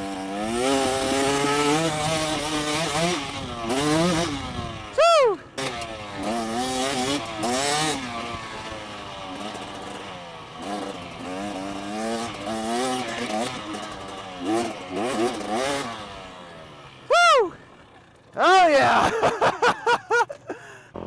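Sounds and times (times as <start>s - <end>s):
two-stroke dirt bike engine revving: 0.0s - 20.2s.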